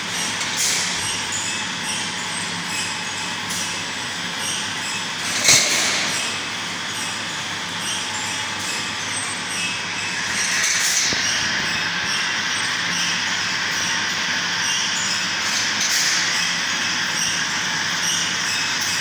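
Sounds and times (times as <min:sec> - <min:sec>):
machine clatter and hiss: 0:00.0 - 0:19.0.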